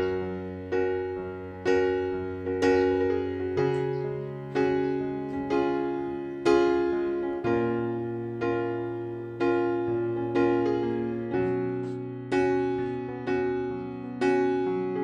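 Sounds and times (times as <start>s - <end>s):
electric piano chords: 0.0s - 15.0s.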